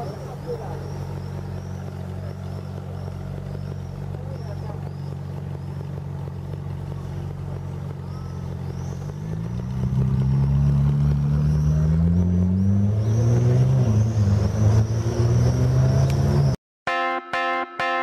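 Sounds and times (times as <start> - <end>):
sports car engine revving: 0.0 - 16.6.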